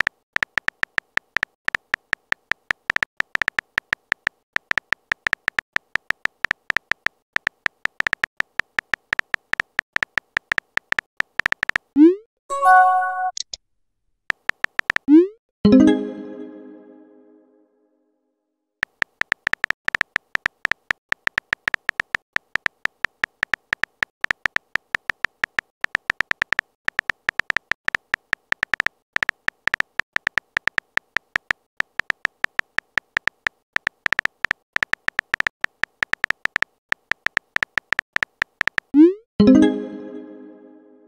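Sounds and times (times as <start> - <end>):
electronic keyboard typing ticks: 0.0 - 12.0, 14.3 - 15.3, 18.8 - 40.1.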